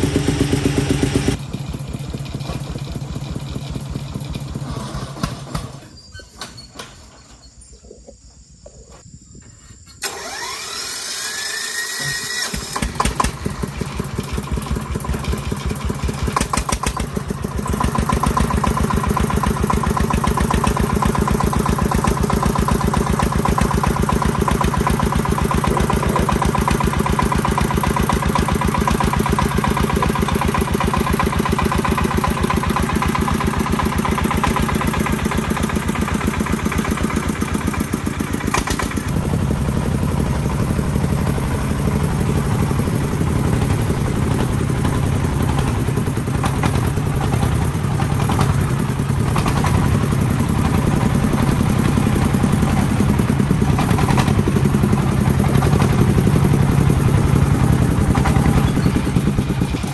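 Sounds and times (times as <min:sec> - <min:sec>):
farm vehicle engine running: 0:00.0 - 0:06.7, 0:10.0 - 0:59.9
starter whine: 0:00.0 - 0:07.2, 0:09.8 - 0:59.9.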